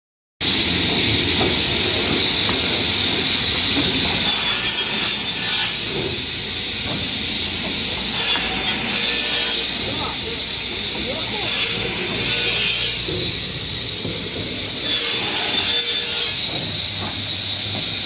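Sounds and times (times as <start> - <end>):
saw running with high whine: 0.4 - 18.0.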